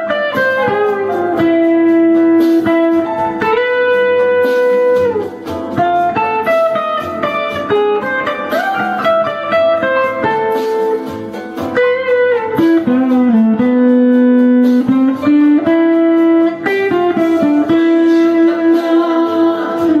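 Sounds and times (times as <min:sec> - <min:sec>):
slow guitar solo melody: 0:00.0 - 0:20.0.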